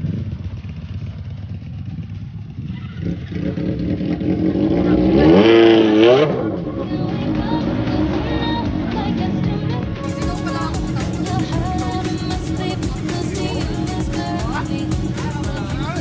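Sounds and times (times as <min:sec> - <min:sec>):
motorcycle engine revving: 0:00.0 - 0:09.2, 0:10.0 - 0:16.0.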